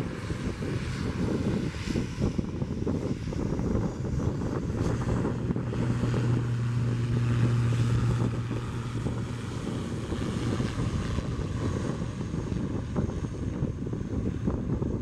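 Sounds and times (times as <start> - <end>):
jet engines low rumble: 0.0 - 15.0
low hum: 0.0 - 15.0.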